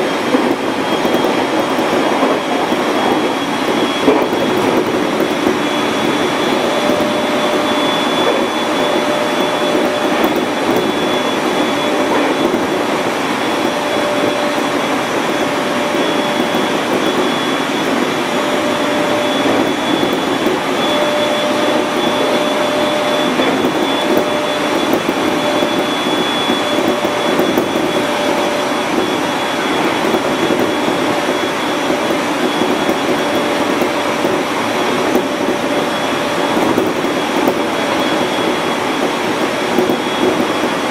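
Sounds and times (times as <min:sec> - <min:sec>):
faint high whine: 0:00.0 - 0:40.9
low train tone: 0:00.0 - 0:40.9
wheel and rail noise: 0:00.0 - 0:40.9.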